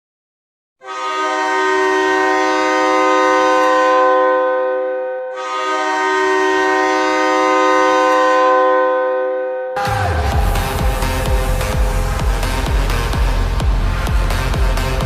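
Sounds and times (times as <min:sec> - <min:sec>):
goal horn blasts: 0:00.8 - 0:13.4.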